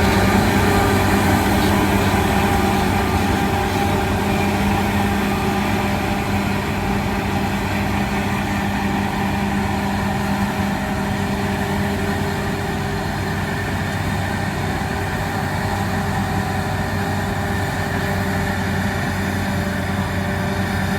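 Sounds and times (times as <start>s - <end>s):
combine harvester engine drone: 0.0s - 20.9s.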